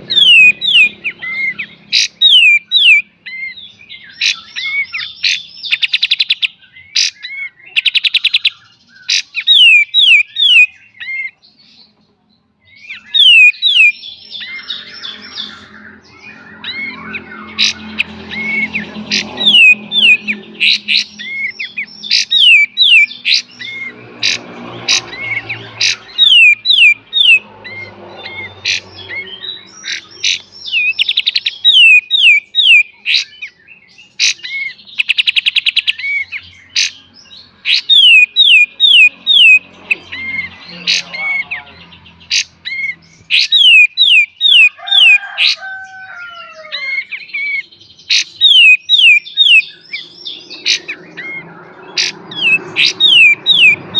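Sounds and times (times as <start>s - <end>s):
songbird whistling: 0.0s - 11.4s, 12.6s - 40.5s, 42.3s - 46.2s, 46.8s - 53.9s.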